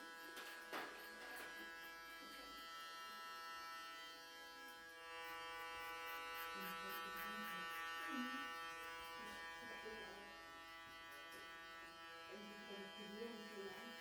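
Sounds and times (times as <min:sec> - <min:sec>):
electric hair clippers buzzing: 0:00.0 - 0:14.0.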